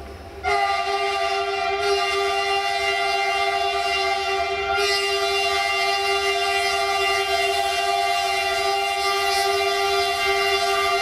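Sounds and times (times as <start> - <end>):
locomotive rumble: 0.0 - 11.0
locomotive horn blast: 0.4 - 11.0.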